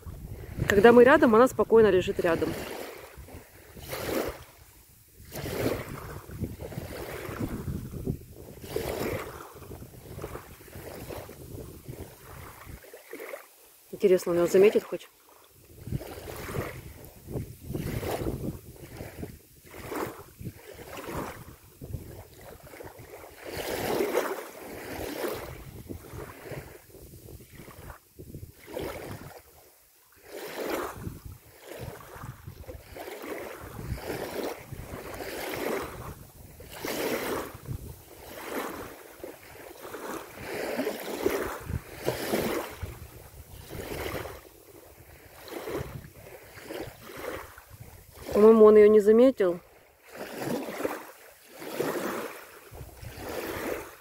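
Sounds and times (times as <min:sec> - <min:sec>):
river waves lapping: 0:00.0 - 0:54.0
wind: 0:00.0 - 0:54.0.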